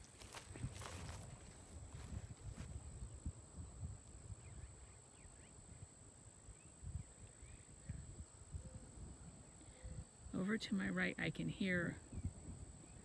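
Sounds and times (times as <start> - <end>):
wind buffeting microphone: 0.0 - 10.3, 11.3 - 13.0.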